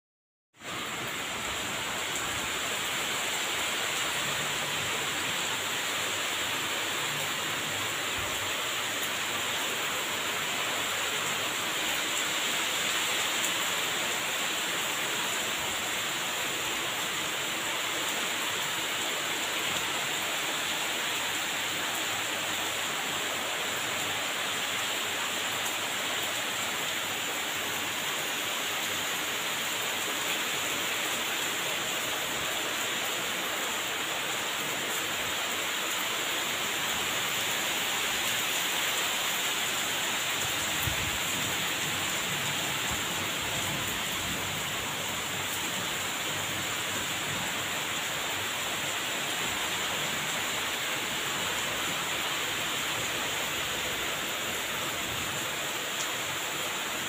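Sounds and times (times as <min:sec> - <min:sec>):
heavy rain on trees: 0:00.5 - 0:57.0.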